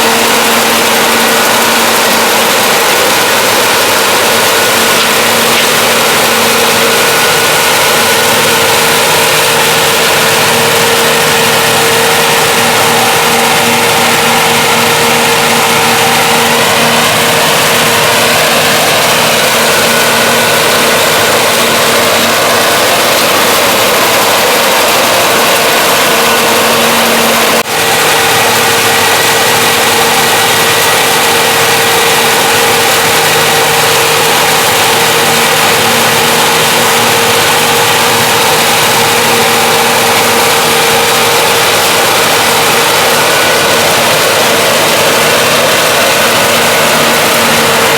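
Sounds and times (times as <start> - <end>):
combine harvester engine and machinery: 0.0 - 47.9
steady machine whine: 0.0 - 47.9.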